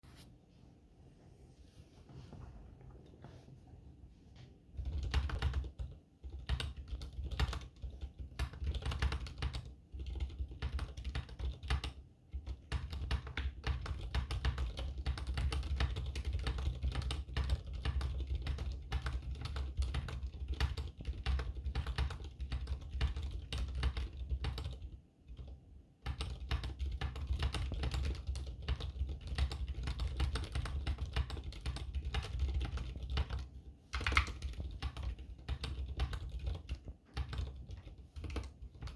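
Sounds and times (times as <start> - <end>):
typing on mechanical keyboard: 4.8 - 38.9.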